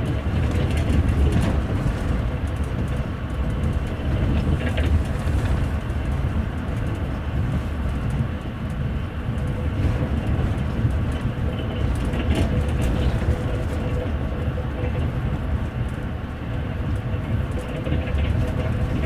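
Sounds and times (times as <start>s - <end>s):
train rumbling and rattling: 0.0s - 19.0s.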